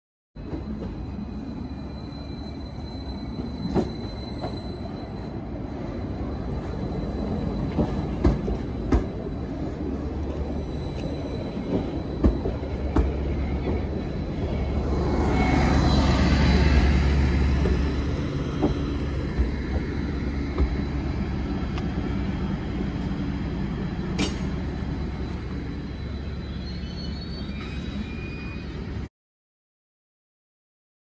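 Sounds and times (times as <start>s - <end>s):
train engines and wheels rumbling: 0.4s - 29.1s.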